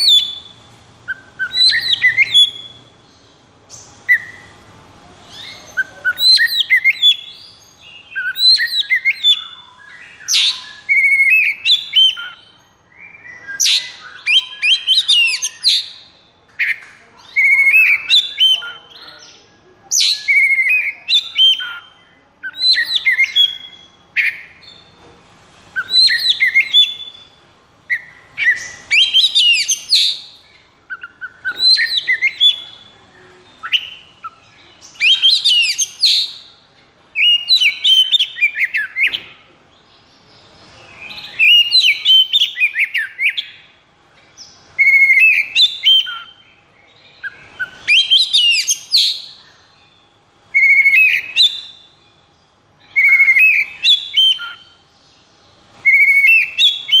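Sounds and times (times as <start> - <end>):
bird singing whistles and trills: 0.0 - 4.6, 5.2 - 25.0, 25.8 - 39.4, 40.8 - 43.8, 44.4 - 54.9, 55.8 - 57.0.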